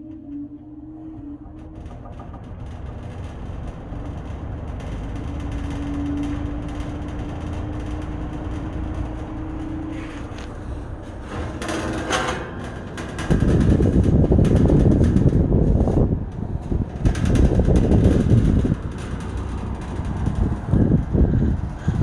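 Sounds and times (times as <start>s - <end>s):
box fan motor humming: 0.0s - 22.0s
fan air rushing: 0.0s - 22.0s.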